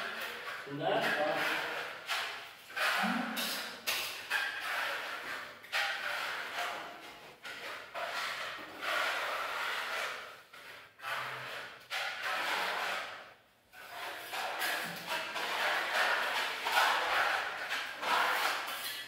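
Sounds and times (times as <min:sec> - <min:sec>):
trowel scraping across wall: 0:00.0 - 0:19.0.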